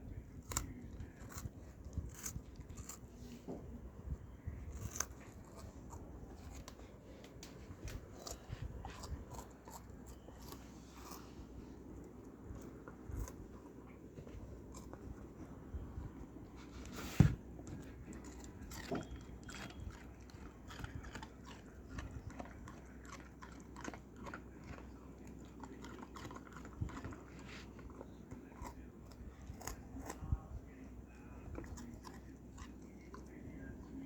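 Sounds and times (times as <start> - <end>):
dog chewing: 0.0 - 34.0.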